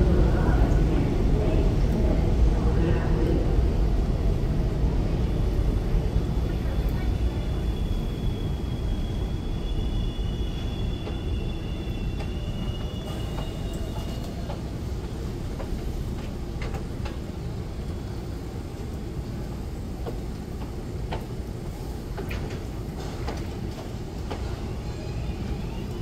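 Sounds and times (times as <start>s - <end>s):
train wheels and motors rumbling: 0.0s - 26.0s.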